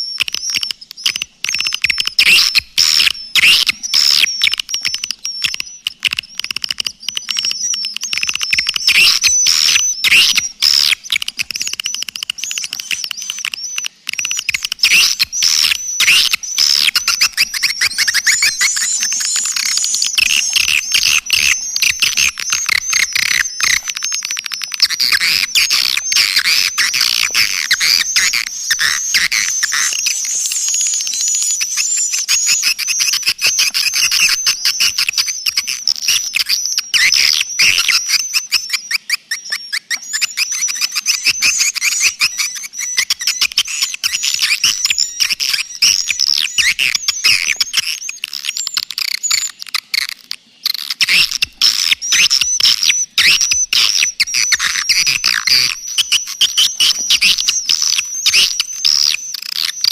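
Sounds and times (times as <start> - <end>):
rapid high-pitched swiftlet chirps: 6.9 - 49.5, 50.7 - 59.9.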